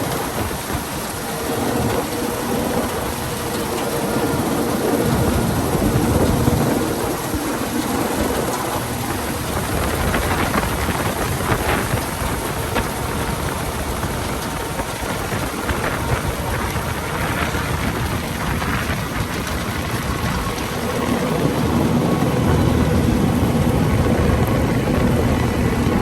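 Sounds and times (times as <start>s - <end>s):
harvest machinery engine drone: 0.0s - 26.0s.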